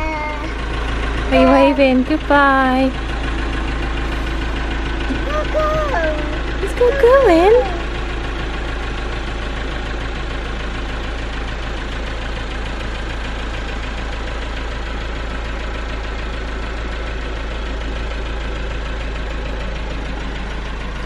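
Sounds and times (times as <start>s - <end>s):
engine running with low hum: 0.0s - 21.0s.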